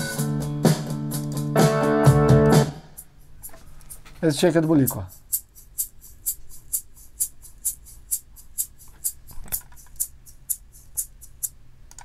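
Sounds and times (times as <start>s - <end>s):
shaker steady beat: 0.0s - 11.7s.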